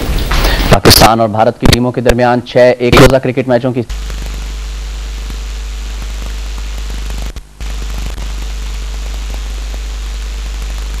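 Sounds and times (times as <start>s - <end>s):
low electrical hum: 0.0s - 11.0s
static hiss: 0.0s - 11.0s.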